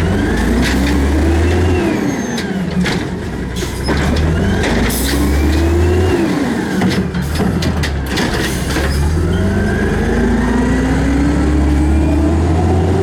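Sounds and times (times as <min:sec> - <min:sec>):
garbage truck engine revving: 0:00.0 - 0:13.0.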